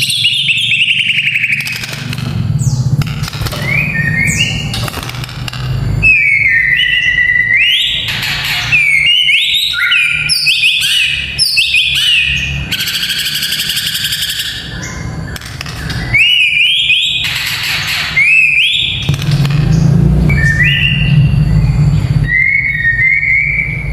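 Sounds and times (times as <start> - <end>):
bird whistled song: 0.0 - 1.9, 3.6 - 4.7, 6.0 - 19.2, 19.8 - 23.9
harsh rattling bird chatter: 0.0 - 22.9.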